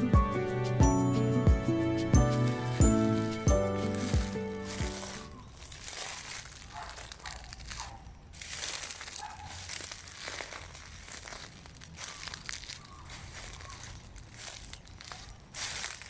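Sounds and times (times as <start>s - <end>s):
footsteps crunching through dry leaves: 2.0s - 16.0s.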